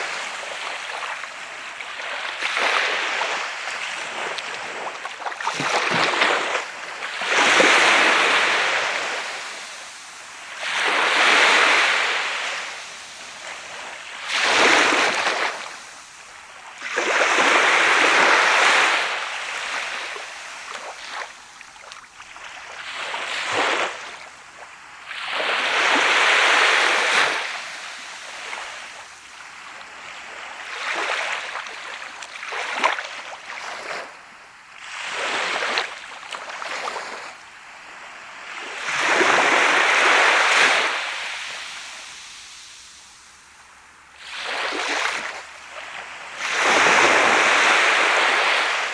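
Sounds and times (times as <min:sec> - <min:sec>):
sea waves breaking on sand: 0:00.0 - 0:34.2, 0:34.8 - 0:43.6, 0:44.2 - 0:48.9.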